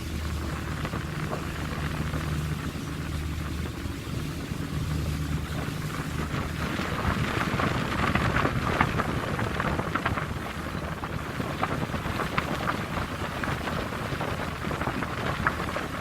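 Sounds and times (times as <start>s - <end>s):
boat engine humming: 0.0s - 16.0s
wind noise on microphone: 0.0s - 16.0s
short crackles: 0.3s - 16.0s.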